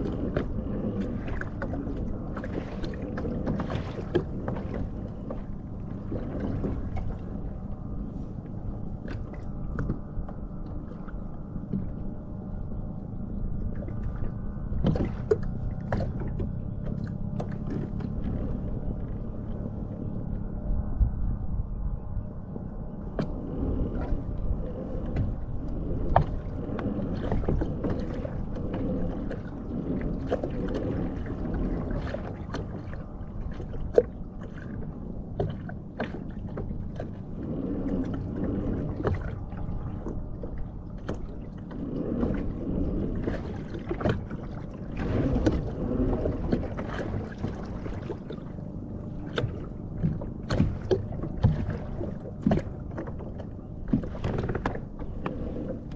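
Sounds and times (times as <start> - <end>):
water sloshing around a kayak: 0.0 - 55.9.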